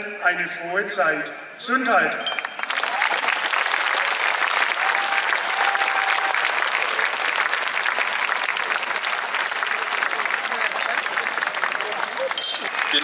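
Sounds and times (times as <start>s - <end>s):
crowd applauding: 2.4s - 13.0s.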